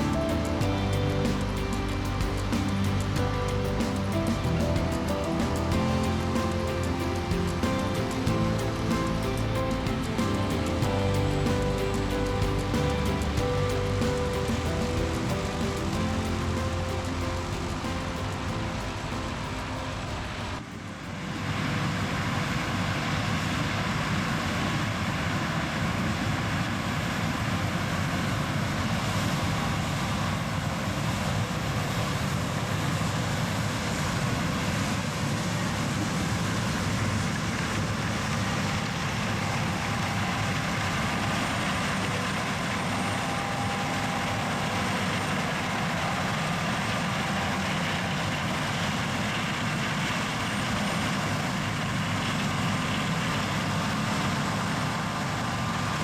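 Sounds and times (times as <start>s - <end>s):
heavy diesel machinery running: 0.0s - 22.4s, 33.4s - 56.0s.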